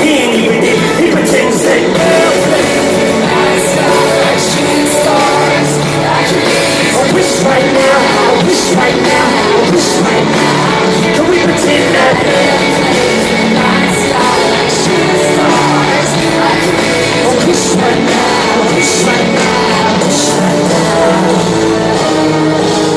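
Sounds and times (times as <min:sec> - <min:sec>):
live concert music with singing: 0:00.0 - 0:22.9.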